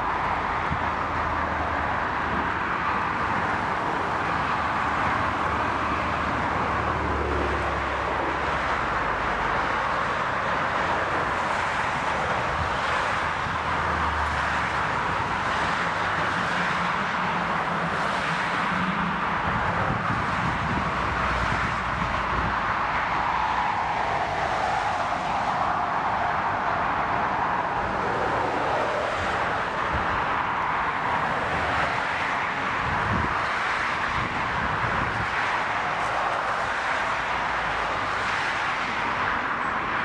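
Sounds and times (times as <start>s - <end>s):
jet engines: 0.0s - 39.9s.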